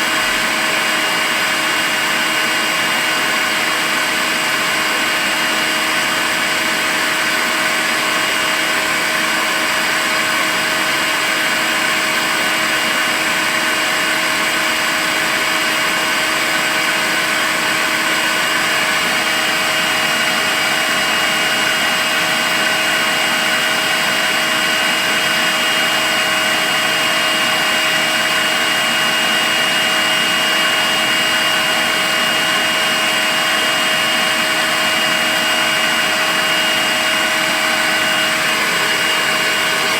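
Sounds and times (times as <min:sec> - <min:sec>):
stick vacuum cleaner running: 0:00.0 - 0:39.9.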